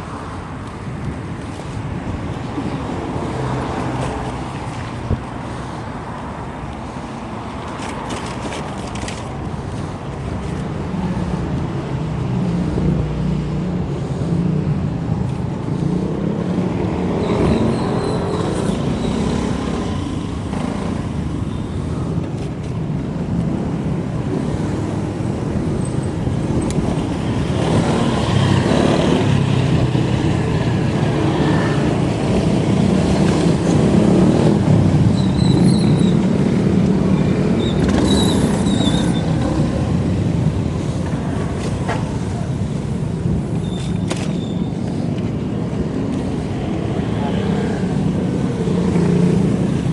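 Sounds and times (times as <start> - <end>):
bike road noise: 0.0 - 49.9
motor traffic passing: 0.0 - 49.9
wind noise: 0.0 - 49.9.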